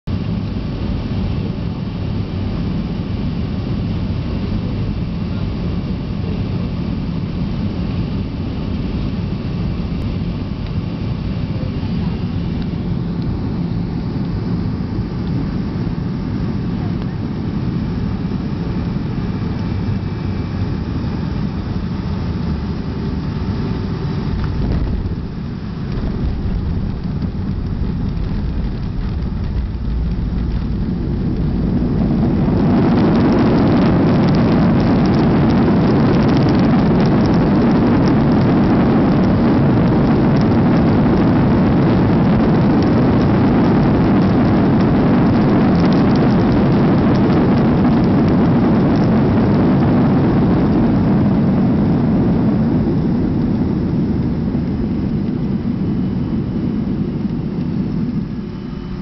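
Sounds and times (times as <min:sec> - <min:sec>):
jet engines roaring in cabin: 0:00.1 - 0:59.0
reverse thrust roar: 0:00.1 - 0:59.0.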